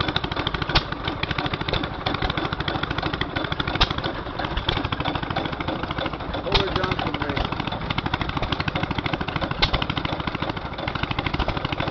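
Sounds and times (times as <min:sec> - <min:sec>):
loud engine bangs: 0:00.0 - 0:11.9
stationary engine clattering: 0:00.0 - 0:11.9.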